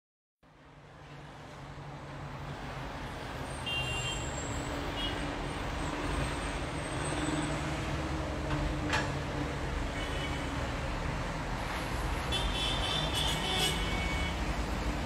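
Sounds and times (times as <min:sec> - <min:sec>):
traffic engines idling and passing: 0:00.4 - 0:15.0.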